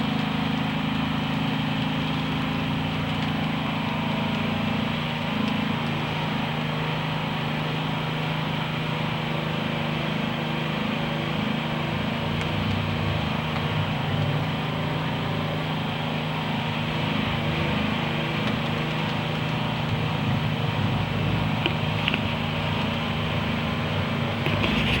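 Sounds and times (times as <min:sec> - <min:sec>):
machinery engine droning: 0:00.0 - 0:25.0.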